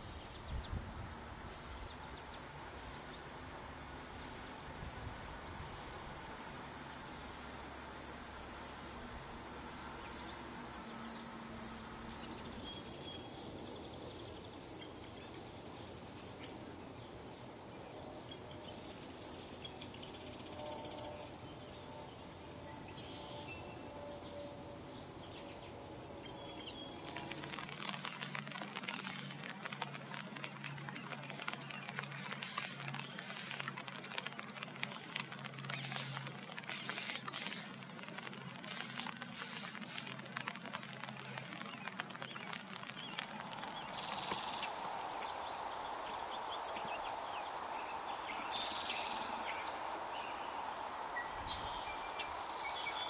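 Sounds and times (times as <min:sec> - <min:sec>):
rain falling on water and mud: 0:00.0 - 0:53.0
small birds chirping: 0:04.1 - 0:53.0.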